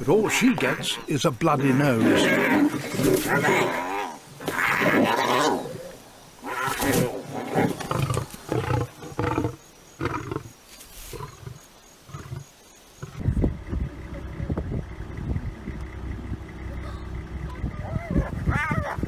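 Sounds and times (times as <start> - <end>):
lions snarling and growling: 0.0 - 19.0.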